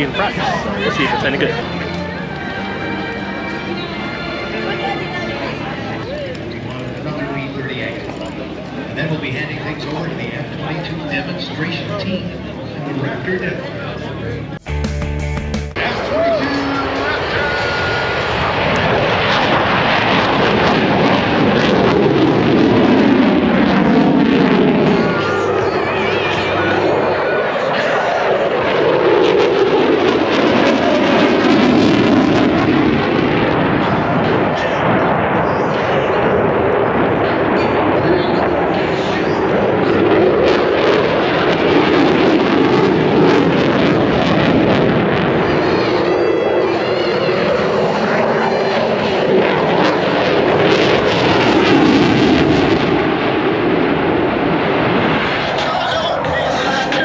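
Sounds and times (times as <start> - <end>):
jet passing: 0.0 - 14.8, 15.7 - 57.0.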